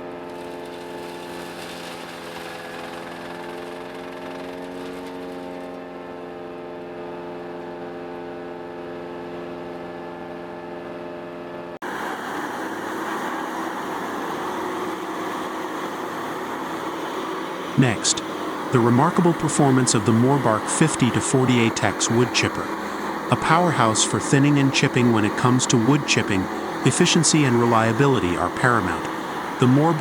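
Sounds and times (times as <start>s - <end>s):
loud rough machine noise: 0.0s - 6.6s, 11.8s - 30.0s
wood chipper engine hum: 0.0s - 30.0s.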